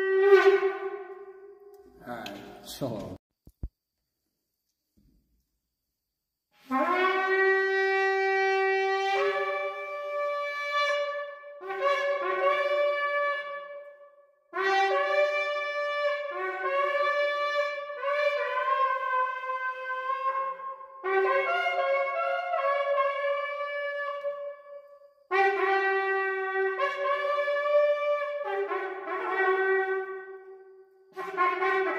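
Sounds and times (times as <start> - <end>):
shofar blowing long notes: 0.0 - 1.6, 6.7 - 14.0, 14.6 - 31.9.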